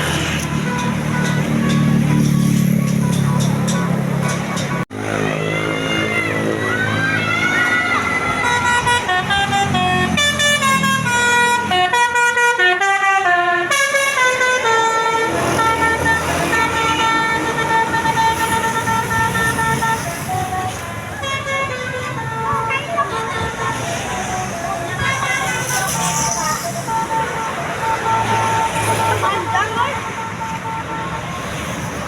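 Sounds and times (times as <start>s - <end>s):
multi-tone bus horn tune: 0.0s - 5.2s, 8.2s - 31.8s.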